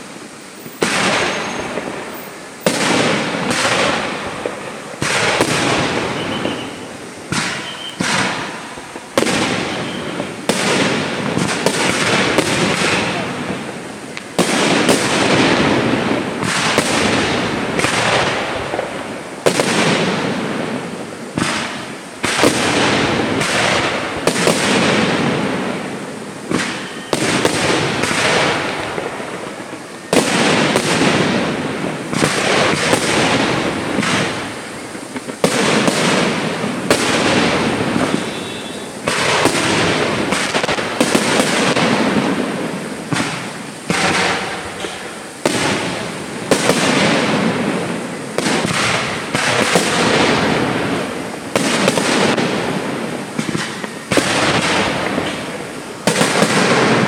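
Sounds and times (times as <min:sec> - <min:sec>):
firework shells bursting: 0:00.6 - 0:57.0.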